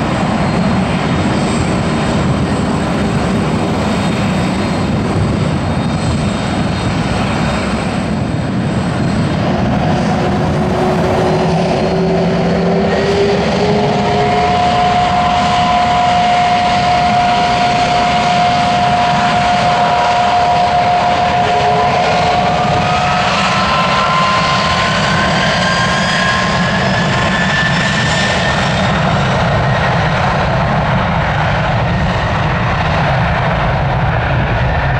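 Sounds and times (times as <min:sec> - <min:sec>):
jet engines roaring and whining: 0:00.0 - 0:34.9.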